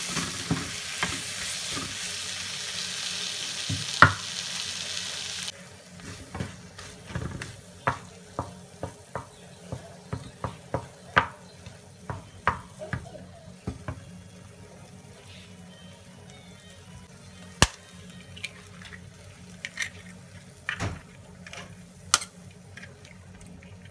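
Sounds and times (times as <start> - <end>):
frying sizzle: 0.0 - 23.9.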